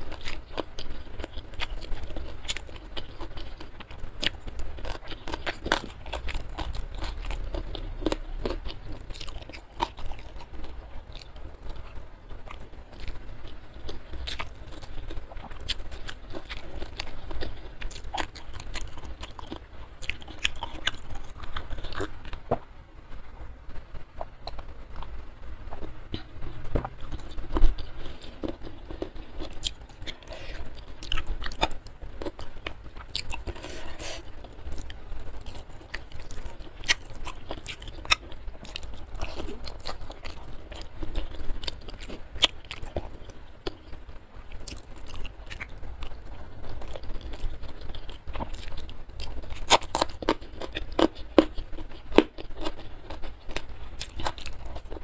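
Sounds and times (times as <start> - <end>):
chewing and crunching: 0.0 - 22.7, 25.7 - 55.0.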